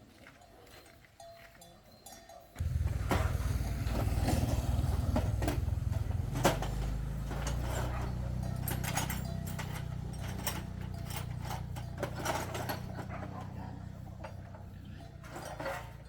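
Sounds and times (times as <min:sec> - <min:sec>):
motor engine running: 0:02.6 - 0:16.0.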